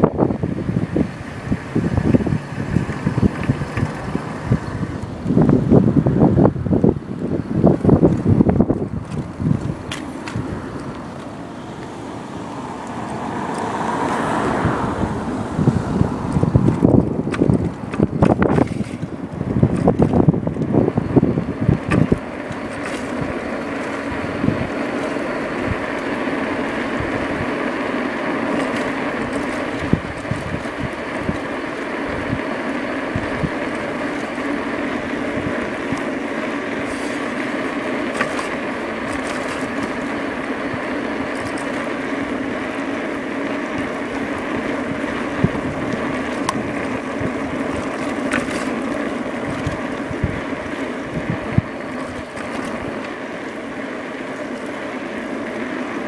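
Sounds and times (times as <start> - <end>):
electric bike motor hum: 0.0 - 56.0
tyre and road noise: 0.0 - 56.0.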